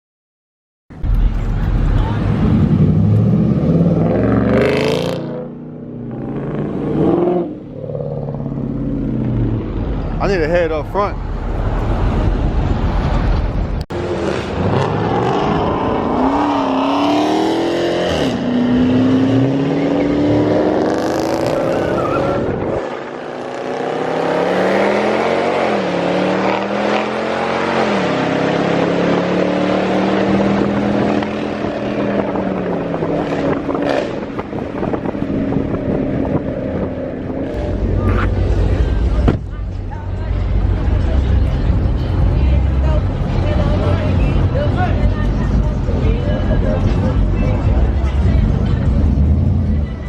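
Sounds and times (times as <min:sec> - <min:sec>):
car engine accelerating: 0:00.9 - 0:50.0.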